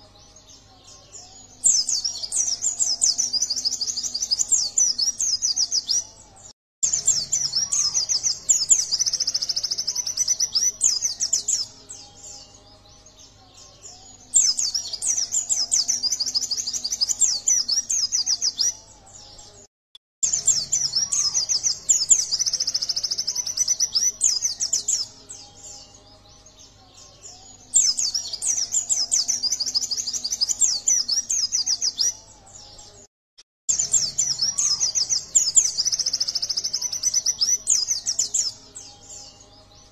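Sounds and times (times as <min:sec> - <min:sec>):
bird twittering song: 0:00.0 - 0:33.1, 0:33.7 - 0:39.9.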